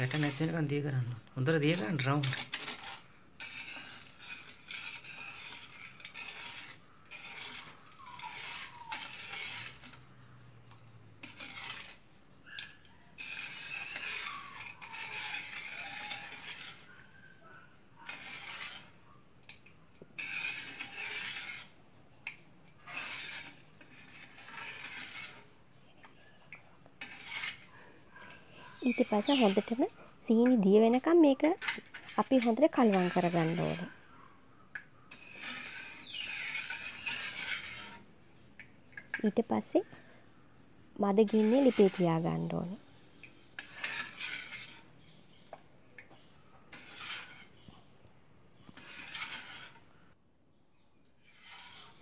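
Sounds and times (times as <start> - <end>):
spoon scraping in a pan: 0.0 - 40.3, 41.0 - 50.1, 51.0 - 52.0.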